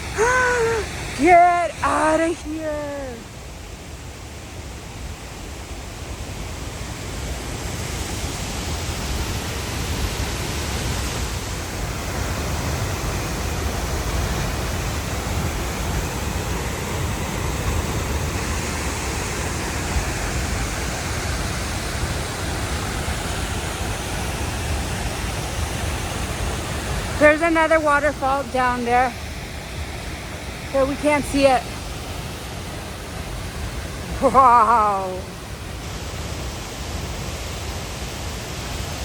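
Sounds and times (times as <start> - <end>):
waterfall: 0.0 - 39.0.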